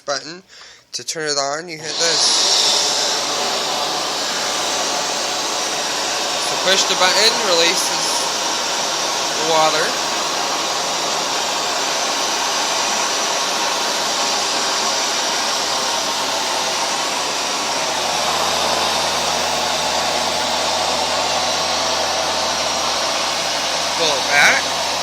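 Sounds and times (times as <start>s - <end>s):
carpet washer motor whirring: 1.9s - 25.0s.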